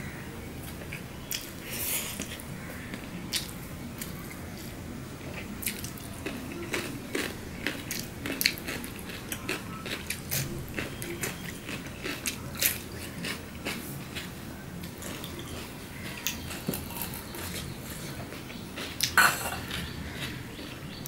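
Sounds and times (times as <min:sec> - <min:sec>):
chewing and crunching food: 0:00.6 - 0:21.0.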